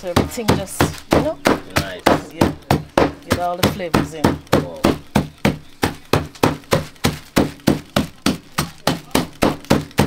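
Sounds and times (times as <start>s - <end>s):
blade chopping on a block: 0.0s - 10.0s.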